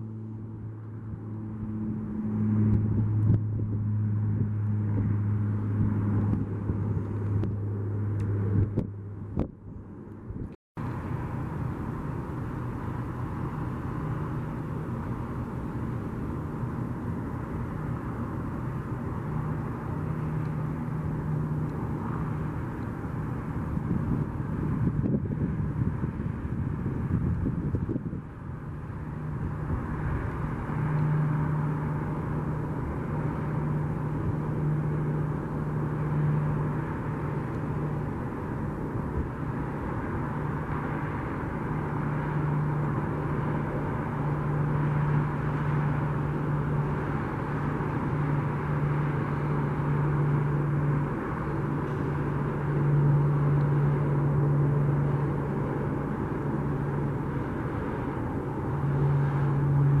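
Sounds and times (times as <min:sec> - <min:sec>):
aircraft engines droning: 0:00.0 - 1:00.0.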